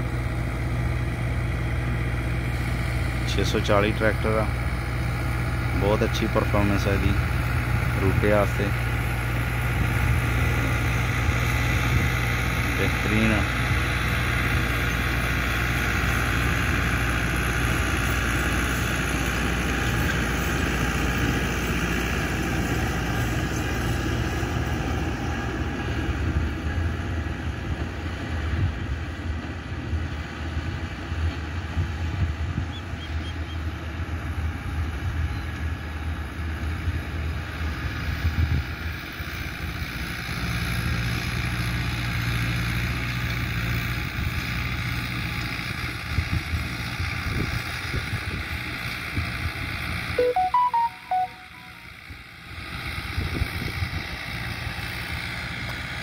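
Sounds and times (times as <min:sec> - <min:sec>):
tractor diesel engine under load: 0:00.0 - 0:33.0, 0:33.6 - 0:50.2, 0:51.9 - 0:56.0.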